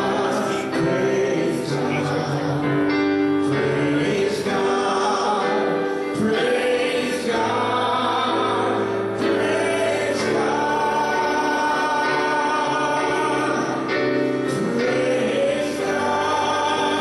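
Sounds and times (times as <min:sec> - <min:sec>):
group singing gospel song: 0:00.0 - 0:17.0.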